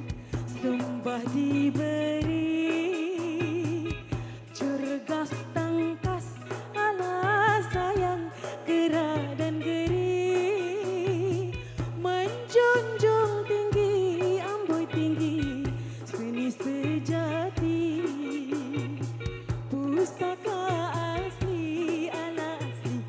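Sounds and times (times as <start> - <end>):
band with drum beat: 0.0 - 23.0
woman singing with vibrato: 0.0 - 23.0.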